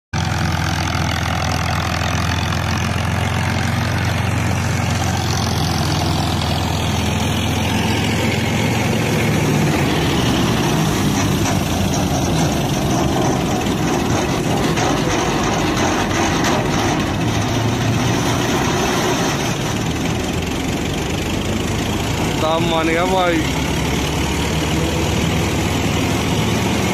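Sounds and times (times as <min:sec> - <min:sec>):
straw reaper rushing noise: 0:00.2 - 0:26.9
tractor engine hum: 0:00.2 - 0:26.9.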